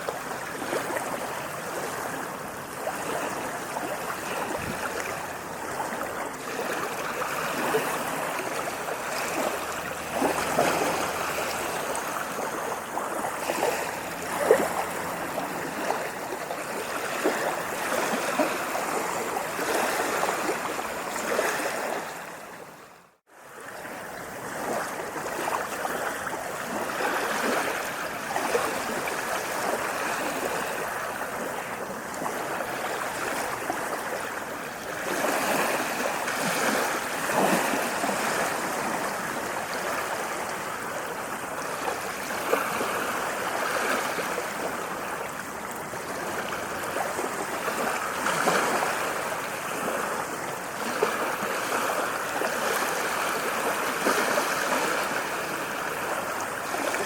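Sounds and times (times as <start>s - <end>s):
water splashing and gurgling: 0.0s - 57.0s.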